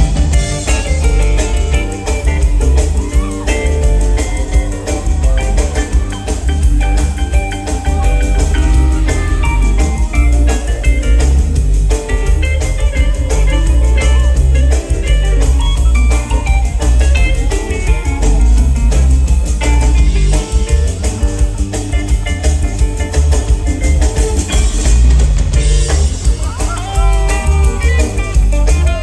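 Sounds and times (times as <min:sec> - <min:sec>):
heavy bass and drums: 0:00.0 - 0:29.0
quick keyboard and guitar runs: 0:00.0 - 0:29.0
rock band playing instrumental: 0:00.0 - 0:29.0.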